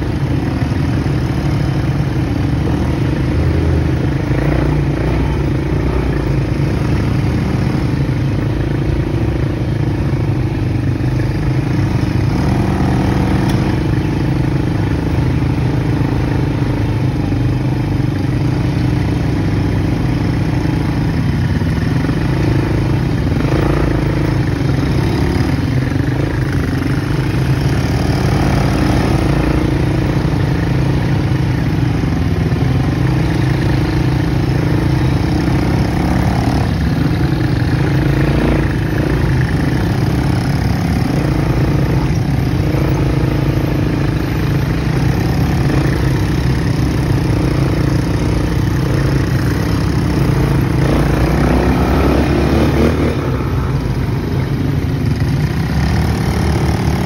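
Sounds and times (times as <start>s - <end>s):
quad bike engines running: 0.0s - 57.0s.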